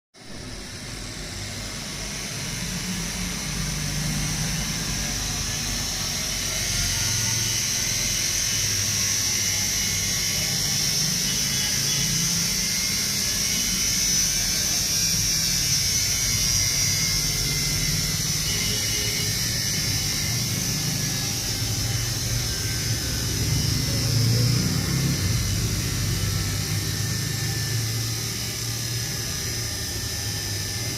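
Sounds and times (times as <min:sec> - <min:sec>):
washing machine motor humming: 0:00.2 - 0:30.9.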